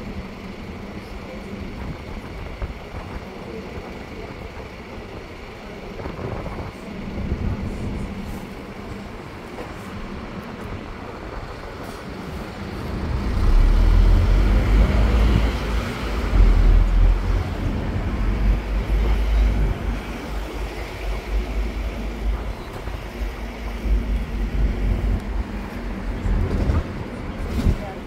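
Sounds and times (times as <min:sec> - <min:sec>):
bus engine rumble: 0:00.0 - 0:28.0
road traffic: 0:00.0 - 0:28.0.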